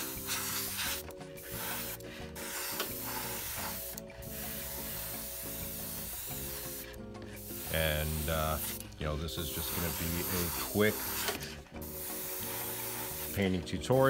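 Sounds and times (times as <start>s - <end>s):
airbrush spraying hiss: 0.0s - 13.6s
background music with held notes: 0.0s - 14.0s.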